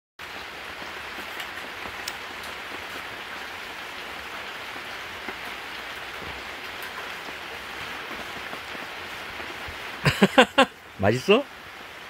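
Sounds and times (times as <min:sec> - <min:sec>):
rain pattering on tent fabric: 0:00.2 - 0:12.0.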